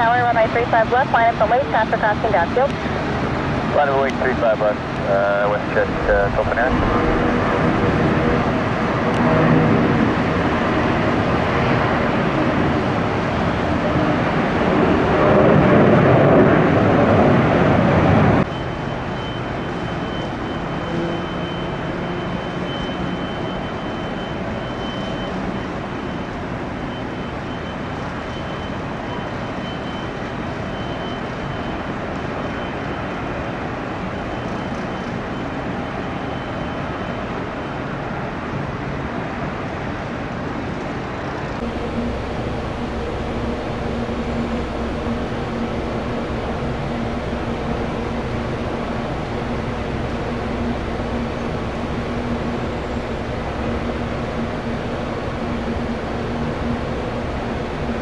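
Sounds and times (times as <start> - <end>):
jet engines roaring: 0.0 - 58.0
steady engine noise with whine: 0.0 - 58.0.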